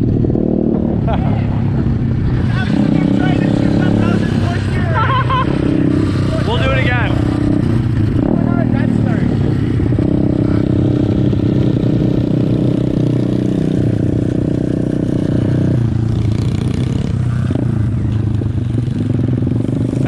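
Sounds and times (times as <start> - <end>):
pit bike engines running: 0.0 - 20.0.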